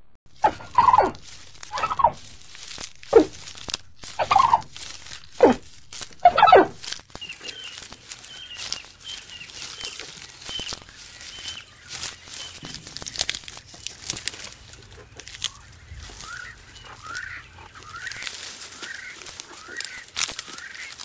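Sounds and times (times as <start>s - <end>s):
animal calls falling in pitch: 0.4s - 21.0s.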